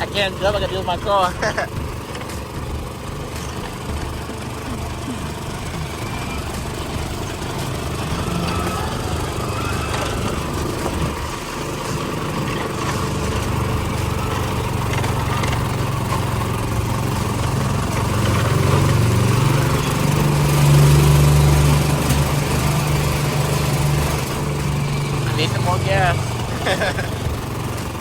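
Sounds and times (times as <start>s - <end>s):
small gasoline engine running: 0.0s - 28.0s.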